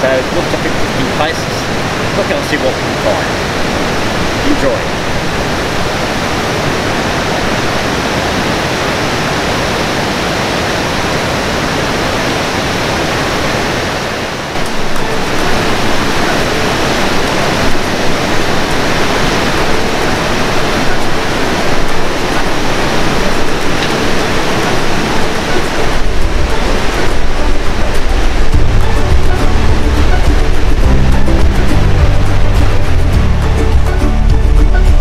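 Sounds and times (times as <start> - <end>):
river water rushing over rapids: 0.0 - 35.0.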